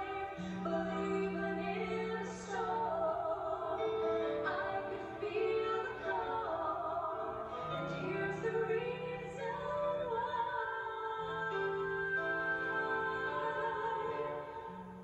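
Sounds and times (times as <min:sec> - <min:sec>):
musical accompaniment: 0:00.0 - 0:15.0
women's vocal group singing: 0:00.0 - 0:15.0.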